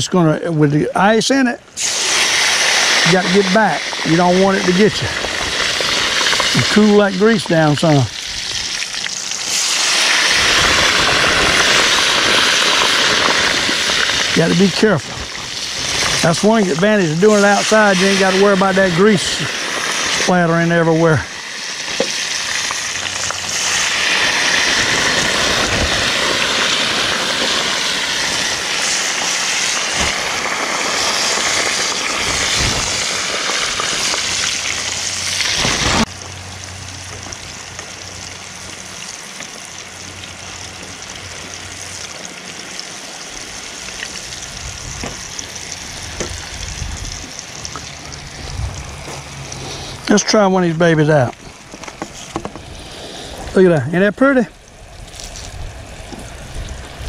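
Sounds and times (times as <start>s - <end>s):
food sizzling in hot grease: 1.8s - 53.8s.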